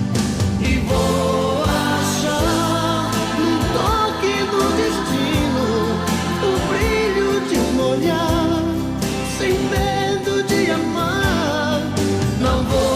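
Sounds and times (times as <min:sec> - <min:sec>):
song with sung vocal: 0:00.4 - 0:12.9.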